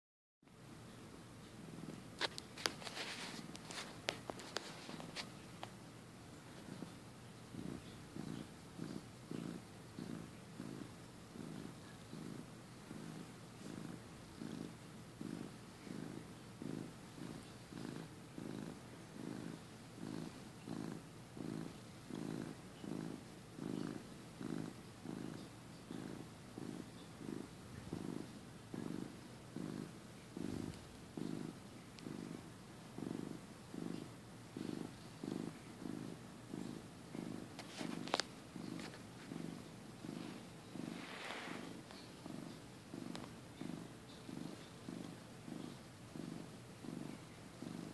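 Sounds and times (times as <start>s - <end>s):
cat purring: 0.6s - 47.9s.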